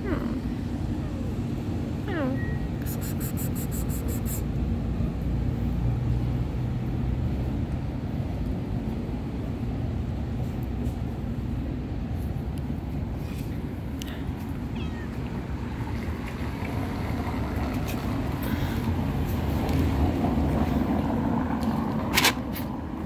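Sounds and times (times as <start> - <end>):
faint engine hum: 0.0 - 23.0
motor traffic rumble: 0.0 - 23.0.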